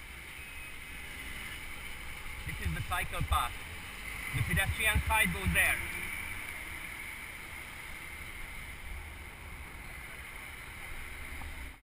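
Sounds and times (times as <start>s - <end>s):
road noise: 0.0s - 11.8s
thin high whine: 0.0s - 11.8s.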